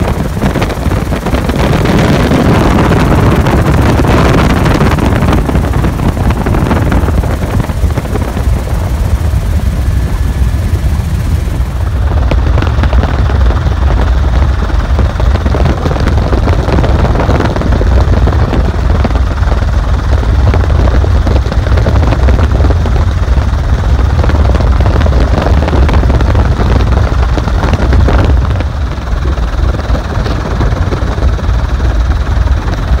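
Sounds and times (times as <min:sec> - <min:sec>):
helicopter rotor and turbine drone: 0:00.0 - 0:33.0.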